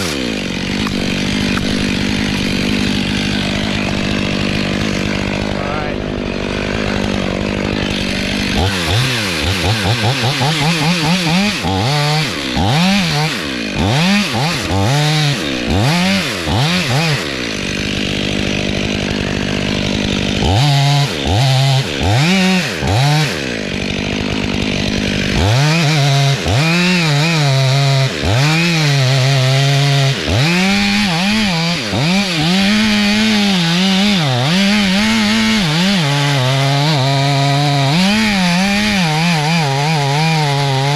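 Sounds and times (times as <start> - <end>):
chainsaw revving and cutting: 0.0 - 40.9.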